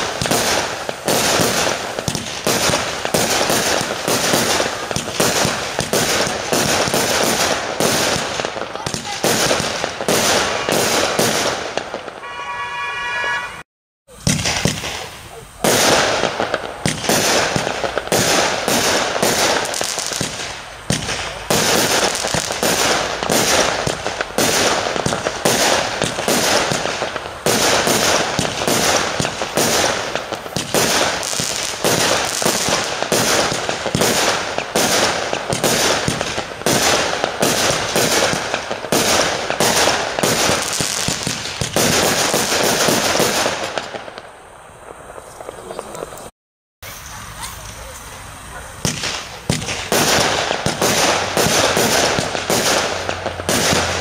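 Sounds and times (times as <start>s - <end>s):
fireworks shots: 0.0s - 54.0s.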